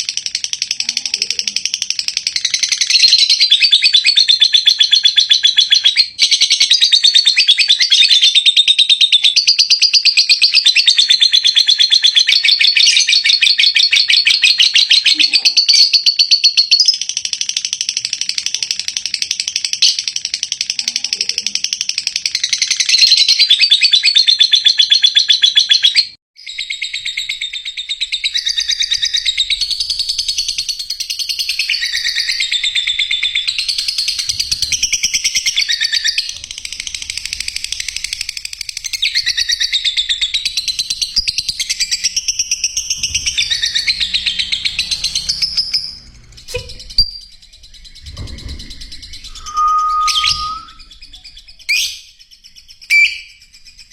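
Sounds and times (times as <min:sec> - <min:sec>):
birds chirping high-pitched: 0:00.0 - 0:53.9.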